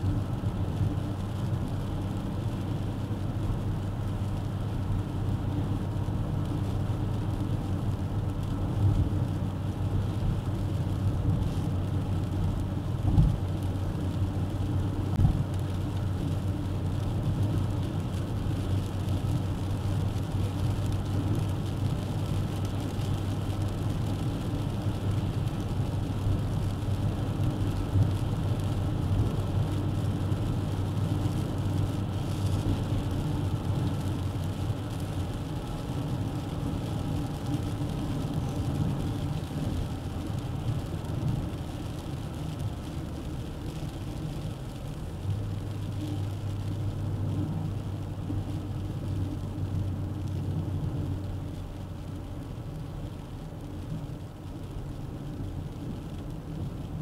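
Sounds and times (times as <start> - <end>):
car engine hum: 0.0 - 57.0
tyre road noise: 0.0 - 57.0.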